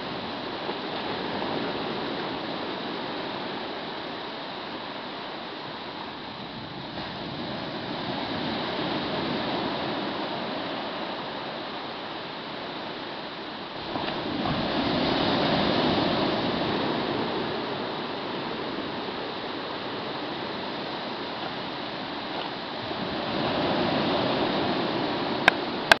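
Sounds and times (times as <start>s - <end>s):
sea waves washing onto shore: 0.0s - 26.0s.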